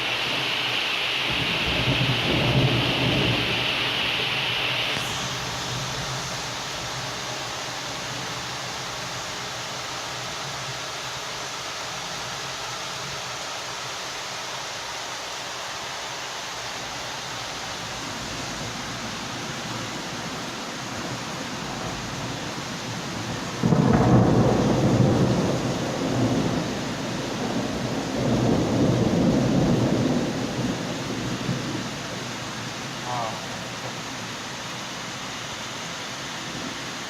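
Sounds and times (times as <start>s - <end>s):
heavy rainfall: 0.0s - 37.0s.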